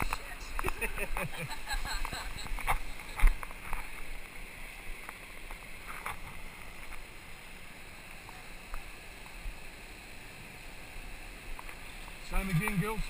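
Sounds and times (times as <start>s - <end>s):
water rushing along a boat hull: 0.0s - 13.0s.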